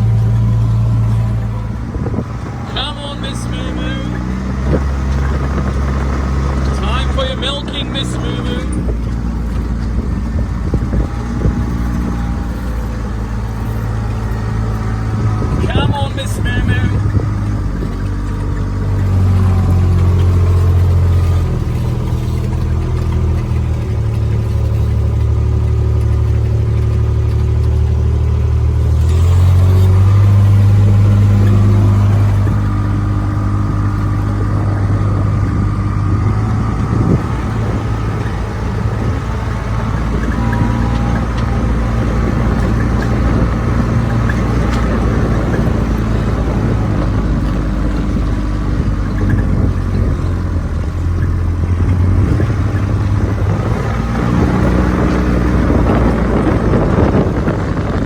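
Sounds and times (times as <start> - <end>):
farm vehicle engine running: 0.0 - 58.0.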